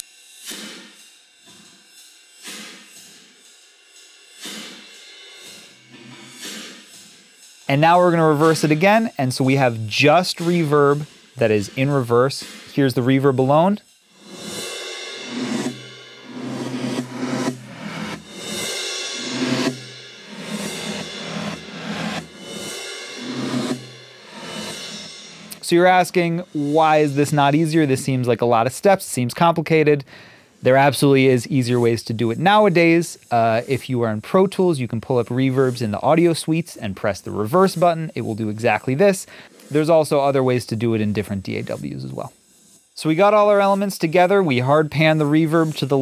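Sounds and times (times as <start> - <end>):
reversed drum and cymbal hits: 0.0 - 46.0.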